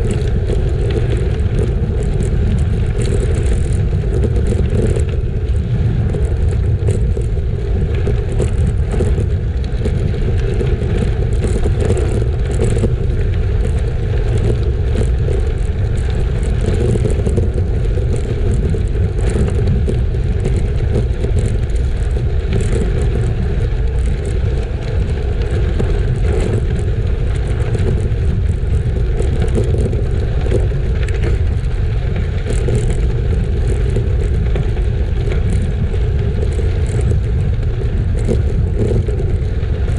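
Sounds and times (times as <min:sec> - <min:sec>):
bicycle tyres on gravel: 0:00.0 - 0:39.9
wind rumbling on microphone: 0:00.0 - 0:39.9.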